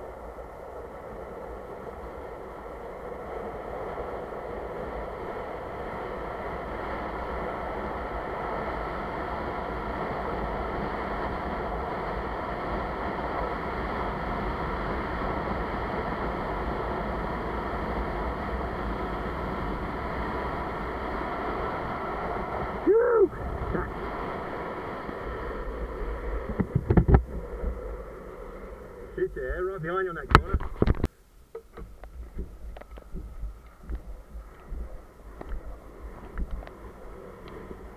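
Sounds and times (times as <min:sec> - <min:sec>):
longboard wheels rolling on asphalt: 0:00.0 - 0:37.9
wind on microphone: 0:00.0 - 0:37.9.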